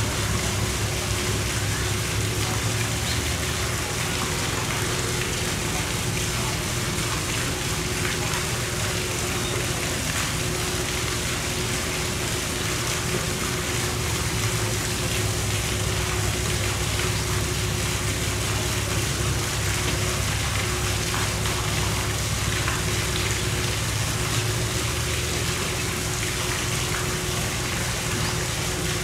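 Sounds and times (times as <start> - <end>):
low machine hum: 0.0 - 29.0
rushing water: 0.0 - 29.0.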